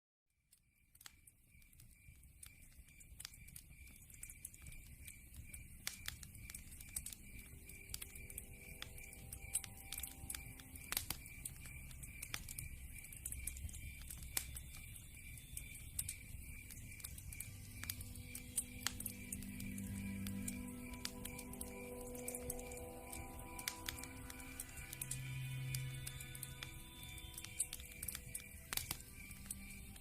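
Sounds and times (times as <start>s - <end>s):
wood fire crackling: 0.5s - 30.0s.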